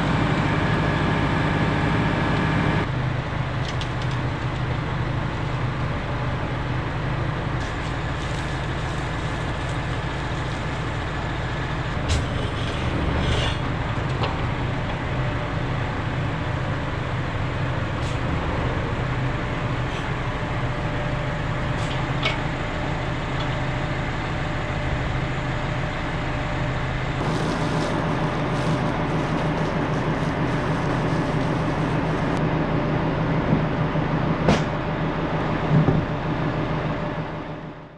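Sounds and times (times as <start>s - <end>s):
tractor engine running: 0.0s - 37.7s.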